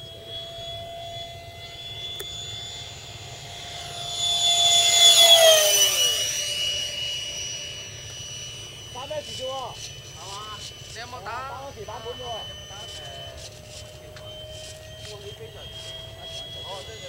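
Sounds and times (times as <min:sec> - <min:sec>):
electric ducted fan whine: 0:00.0 - 0:17.0.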